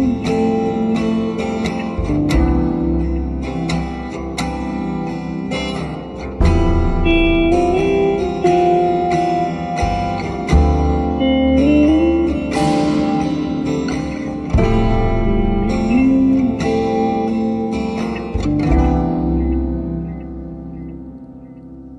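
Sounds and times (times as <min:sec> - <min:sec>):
slowed pop song instrumental: 0:00.0 - 0:21.9.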